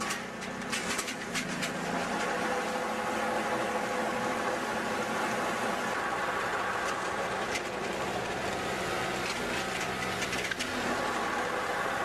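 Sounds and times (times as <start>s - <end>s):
baler engine running: 0.0s - 12.0s.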